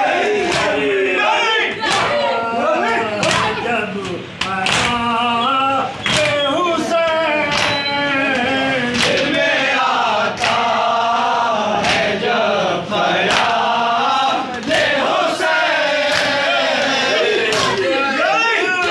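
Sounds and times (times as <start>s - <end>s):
rhythmic chest slaps: 0.0s - 1.0s, 1.7s - 2.2s, 3.2s - 18.0s
men chanting a lament: 0.0s - 18.9s.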